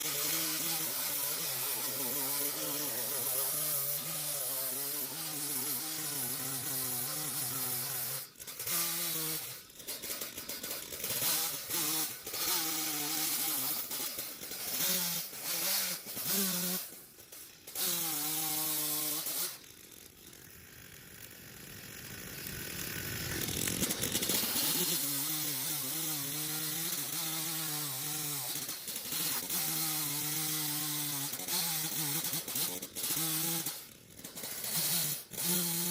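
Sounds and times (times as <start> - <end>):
chainsaw cutting wood: 0.0 - 35.9.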